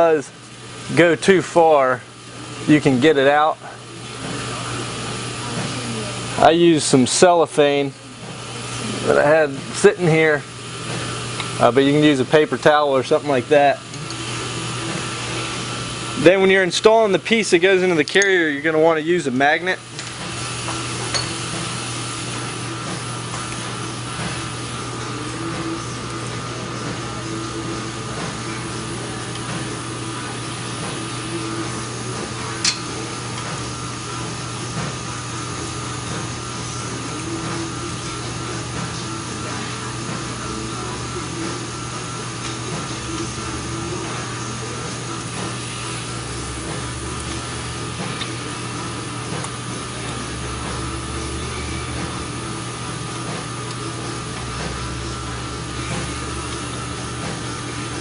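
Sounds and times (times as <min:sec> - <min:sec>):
machine hum with whine: 0:00.0 - 0:58.0.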